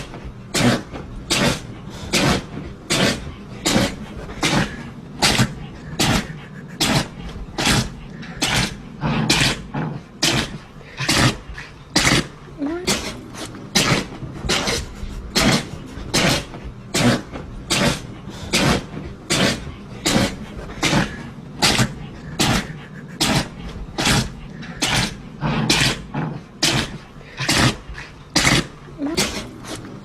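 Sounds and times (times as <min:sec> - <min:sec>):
dog sneezing: 0:00.0 - 0:30.0.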